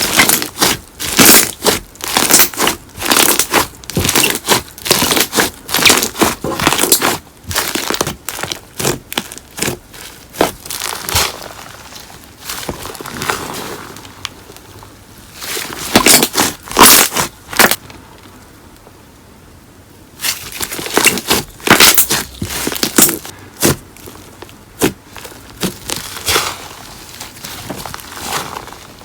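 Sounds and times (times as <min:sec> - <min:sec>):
slime squished by hand: 0:00.0 - 0:14.6, 0:15.4 - 0:17.8, 0:20.2 - 0:29.0.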